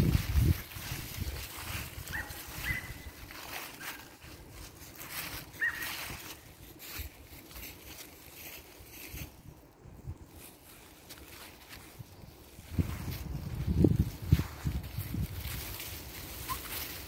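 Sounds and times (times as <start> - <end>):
dry leaves rustling underfoot: 0.0 - 17.0.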